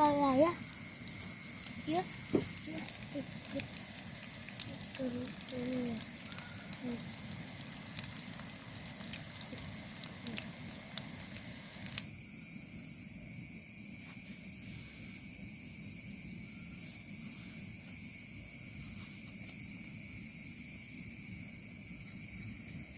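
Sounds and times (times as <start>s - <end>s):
food frying in hot oil: 0.0s - 12.7s, 13.4s - 22.9s
night insects chirring: 0.0s - 22.9s.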